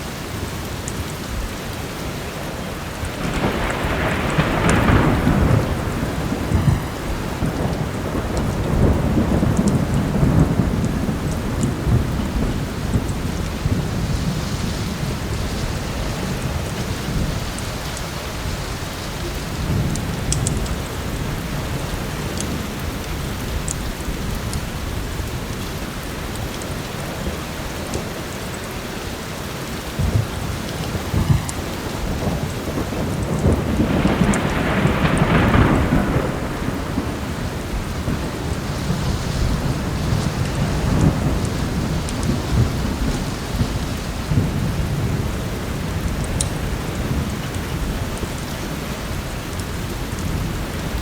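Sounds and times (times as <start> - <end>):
heavy rain: 0.0 - 51.0
thunder rumbling: 0.1 - 51.0.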